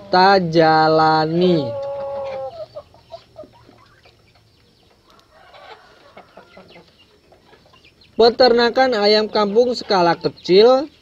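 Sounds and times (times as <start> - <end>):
chickens clucking faintly: 0.0 - 11.0.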